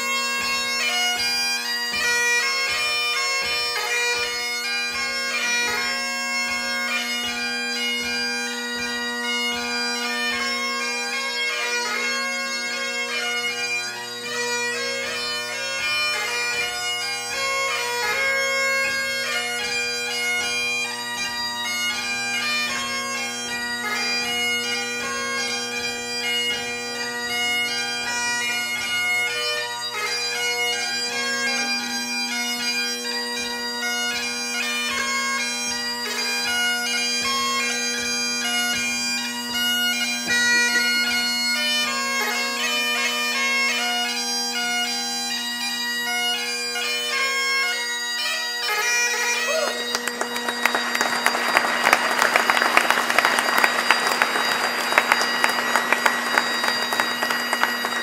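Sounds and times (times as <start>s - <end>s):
bagpipe chanter melody: 0.0s - 58.0s
bagpipe drones humming: 0.0s - 58.0s.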